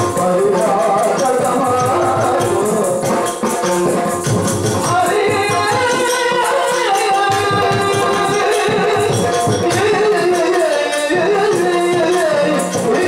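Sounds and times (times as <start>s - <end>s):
ankle bells jingling: 0.0s - 13.0s
person singing wavering melody: 0.0s - 13.0s
rhythmic drumming: 0.0s - 13.0s.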